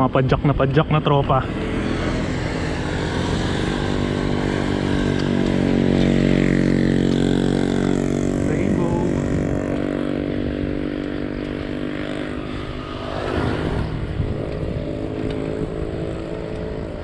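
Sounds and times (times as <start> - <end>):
motorcycle engine running: 0.0 - 17.0
wind on microphone: 1.4 - 17.0.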